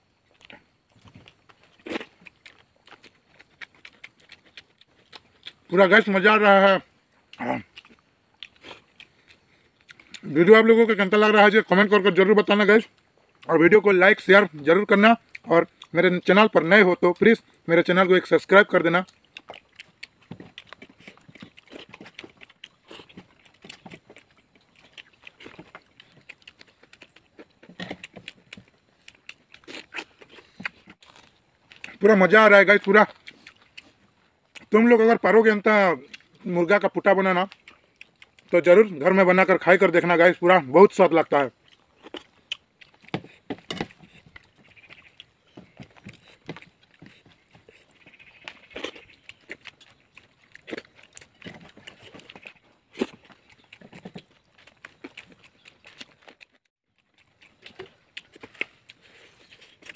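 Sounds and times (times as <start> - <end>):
chewing and mouth clicks: 0.0 - 6.2, 6.8 - 11.8, 12.8 - 14.6, 15.2 - 59.9.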